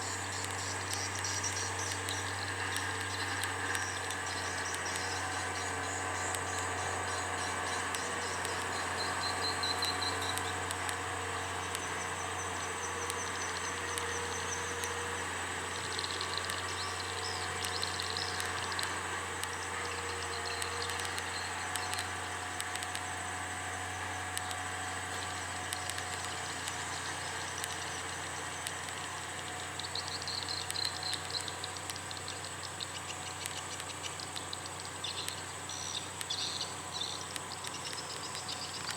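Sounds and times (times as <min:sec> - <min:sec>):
insects trilling: 0:00.0 - 0:38.9
vehicle engine drone: 0:00.0 - 0:38.9.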